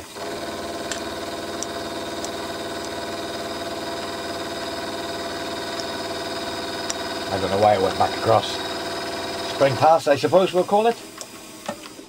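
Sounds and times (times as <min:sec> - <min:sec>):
milling machine running: 0:00.0 - 0:11.7.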